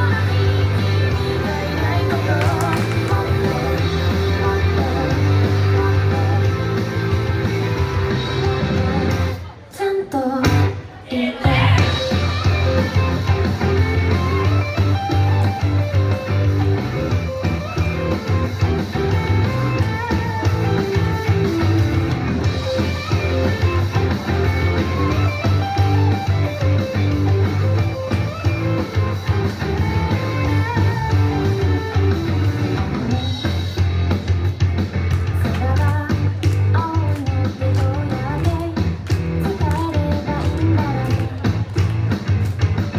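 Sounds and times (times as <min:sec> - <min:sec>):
rock pop music: 0:00.0 - 0:42.9.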